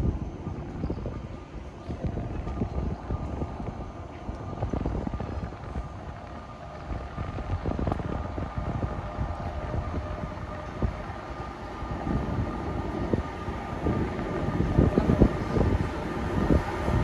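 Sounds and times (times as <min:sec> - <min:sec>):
high whine: 0:00.0 - 0:17.0
train rumble: 0:00.0 - 0:17.0
wind on microphone: 0:00.0 - 0:17.0.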